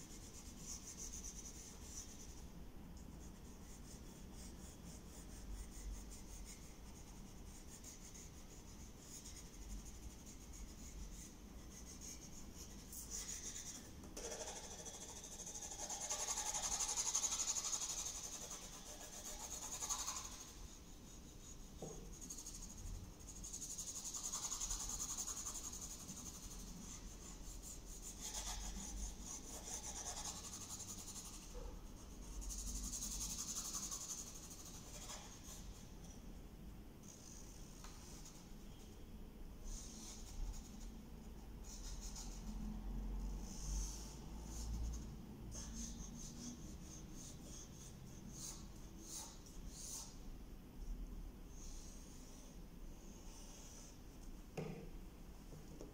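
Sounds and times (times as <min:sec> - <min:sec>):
pencil scratching on paper: 0:00.0 - 0:35.9, 0:37.0 - 0:38.8, 0:39.7 - 0:50.2.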